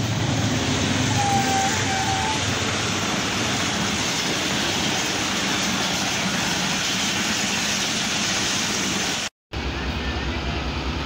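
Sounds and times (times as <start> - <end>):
train coaches rushing past: 0.0 - 11.0.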